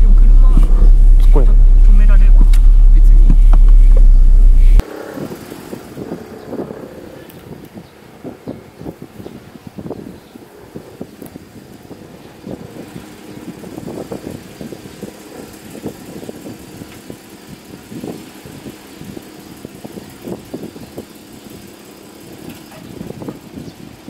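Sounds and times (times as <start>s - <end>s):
car engine running slowly: 0.0s - 6.7s, 11.1s - 24.0s
engine crackles: 0.0s - 24.0s.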